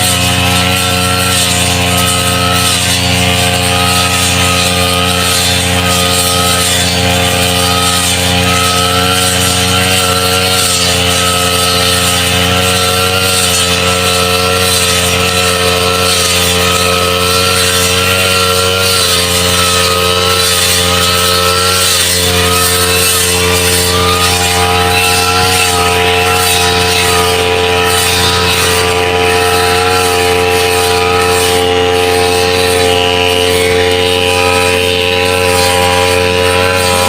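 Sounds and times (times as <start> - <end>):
two-stroke grass cutter engine: 0.0 - 37.0.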